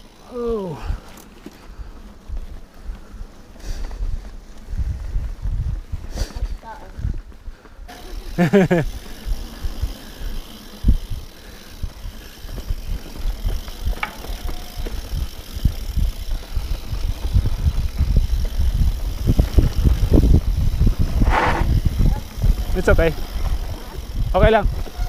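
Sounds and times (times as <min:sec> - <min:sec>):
bike knocking and rattling: 0:00.0 - 0:25.0
bike rolling over rocky dirt: 0:00.0 - 0:25.0
wind on microphone: 0:02.3 - 0:07.6, 0:09.1 - 0:25.0.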